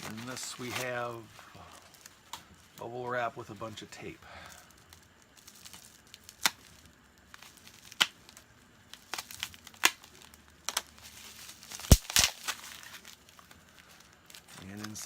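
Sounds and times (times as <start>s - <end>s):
tape tearing off package: 0.0s - 2.2s, 4.5s - 15.0s
plastic wrap crinkling: 0.0s - 15.0s.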